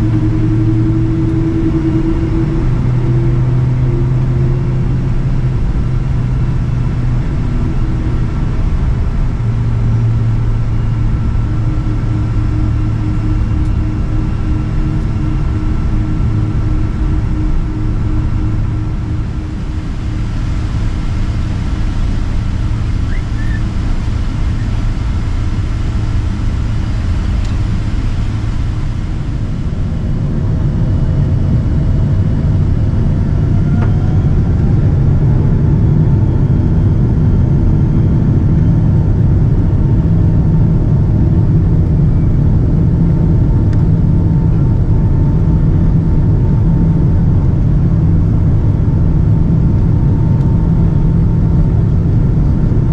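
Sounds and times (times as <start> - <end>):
engine whine rising in pitch: 0.0 - 52.9
jet engines rumbling in cabin: 0.0 - 52.9.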